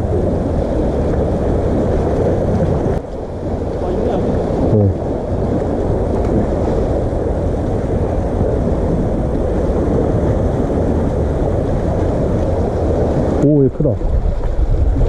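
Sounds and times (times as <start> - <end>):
surf washing on concrete: 0.0 - 15.0
wind buffeting microphone: 0.0 - 15.0.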